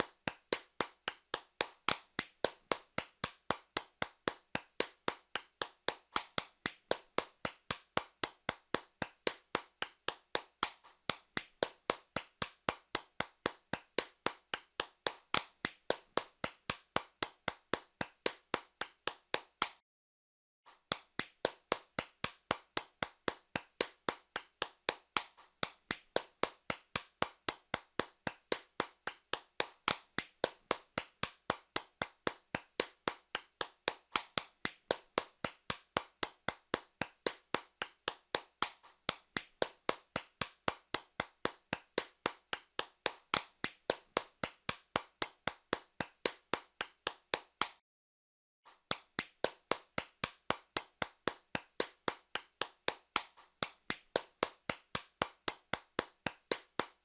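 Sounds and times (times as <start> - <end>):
hands clapping: 0.0 - 19.8, 20.7 - 47.8, 48.7 - 57.0.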